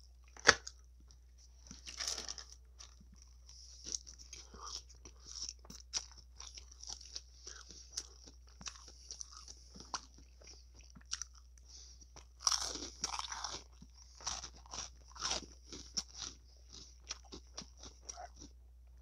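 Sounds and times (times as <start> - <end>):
crunchy chewing: 0.2 - 18.6.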